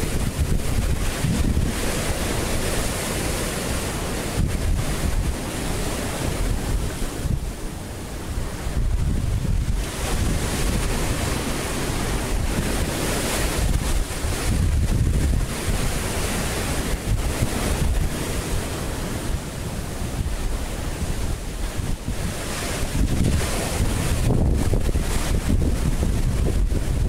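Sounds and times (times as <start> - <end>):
ocean surf: 0.0 - 27.0
wind buffeting microphone: 0.0 - 27.0.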